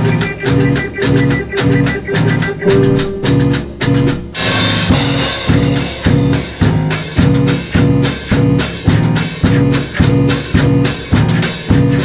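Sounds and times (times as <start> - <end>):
drum kit beat: 0.0 - 12.0
repeating low riff: 0.0 - 12.0.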